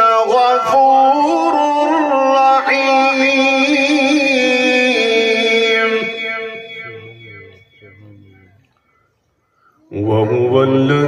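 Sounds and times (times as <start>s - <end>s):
man reciting melodically: 0.0s - 8.8s, 9.7s - 11.0s.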